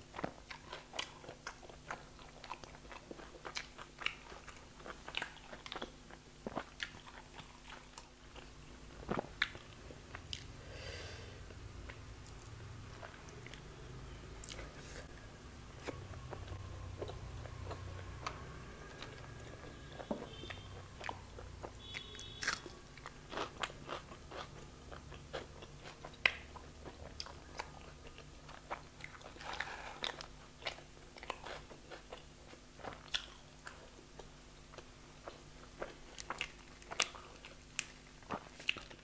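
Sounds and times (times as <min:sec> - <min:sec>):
chewing with lip smacks: 0:00.1 - 0:10.6, 0:15.8 - 0:39.0.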